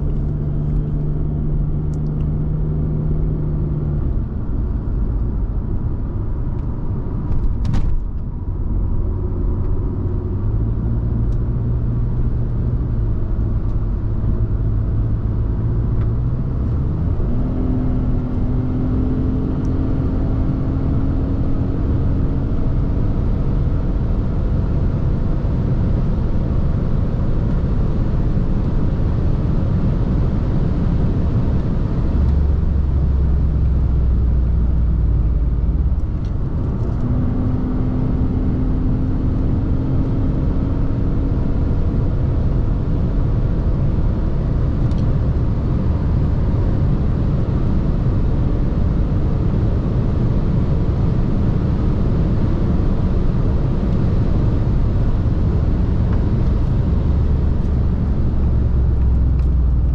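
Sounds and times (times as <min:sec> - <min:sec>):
car engine accelerating: 0:00.0 - 0:59.9
deep drone: 0:00.0 - 0:59.9.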